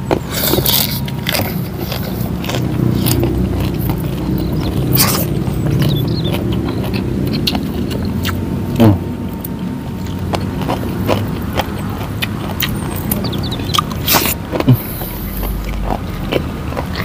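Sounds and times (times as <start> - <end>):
chewing and lip smacks: 0.0 - 17.0
low background rumble: 0.0 - 17.0.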